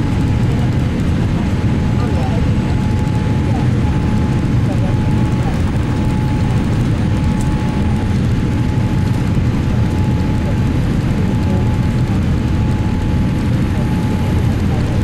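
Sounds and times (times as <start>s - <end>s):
engine and airflow rumble: 0.0s - 15.0s
faint steady whine: 0.0s - 15.0s.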